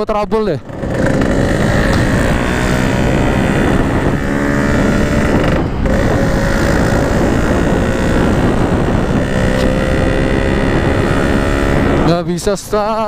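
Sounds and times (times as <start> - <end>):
motorcycle engine running: 0.5 - 13.0
wind rush on microphone: 0.6 - 13.0.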